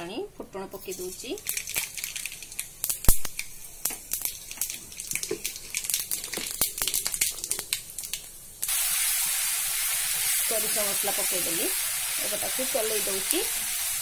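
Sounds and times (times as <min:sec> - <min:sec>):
masala sizzling while stirred: 0:00.7 - 0:14.0
spices crackling in hot oil: 0:00.8 - 0:14.0.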